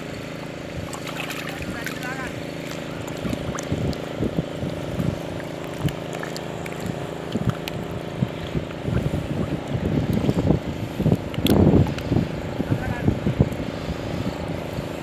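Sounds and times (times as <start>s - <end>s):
water splashing and sloshing: 0.0s - 12.6s
motor engine droning: 0.0s - 15.0s.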